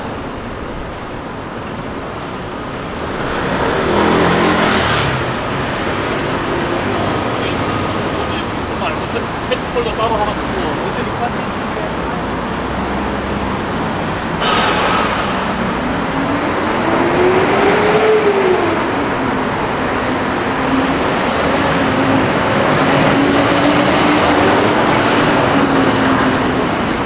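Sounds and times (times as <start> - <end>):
city traffic noise: 0.0 - 27.0.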